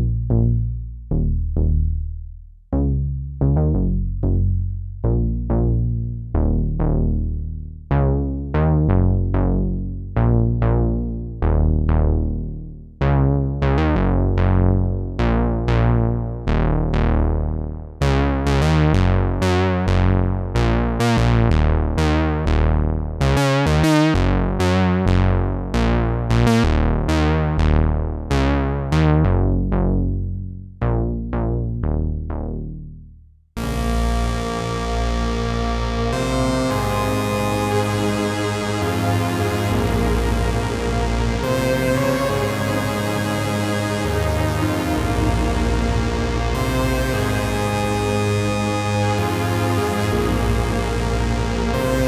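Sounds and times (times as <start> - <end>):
synthesizer plucky bass notes: 0.0 - 52.0.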